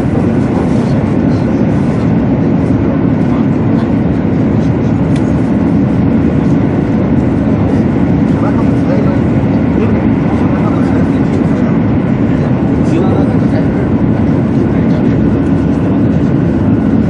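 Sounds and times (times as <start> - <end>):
train cabin low rumble: 0.0 - 17.0.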